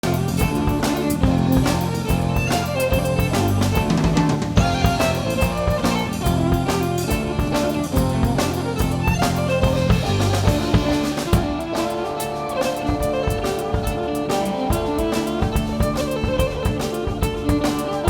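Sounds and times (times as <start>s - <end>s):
drum kit kick and snare: 0.0s - 18.0s
fiddle melody: 0.0s - 18.0s
guitar and bass: 0.0s - 18.0s.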